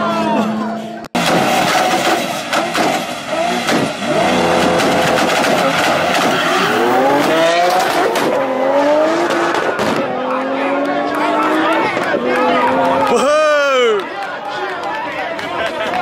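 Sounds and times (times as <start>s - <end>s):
car engines revving and accelerating: 0.0s - 13.3s.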